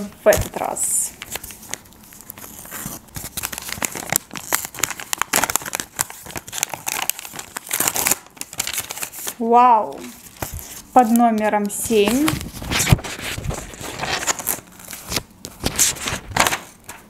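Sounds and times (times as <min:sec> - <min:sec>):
paper packet crinkling: 0:00.0 - 0:17.0.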